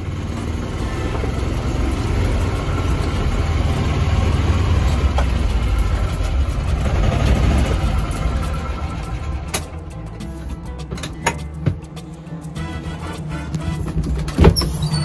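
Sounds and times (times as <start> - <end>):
golf cart engine rumble: 0.0 - 15.0.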